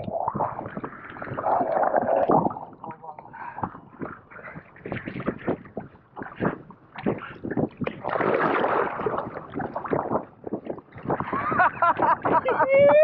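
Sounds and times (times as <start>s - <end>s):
water splashing against boat: 0.0s - 13.0s.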